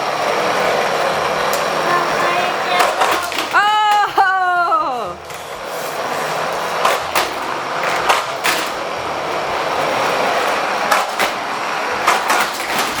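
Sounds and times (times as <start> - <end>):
toy trucks rattling on plastic track: 1.0 - 4.1, 5.3 - 13.0.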